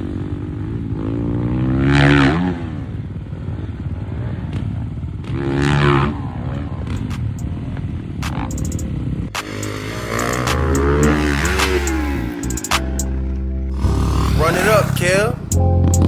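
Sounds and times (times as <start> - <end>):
dirt bike engine revving: 0.0 - 15.6.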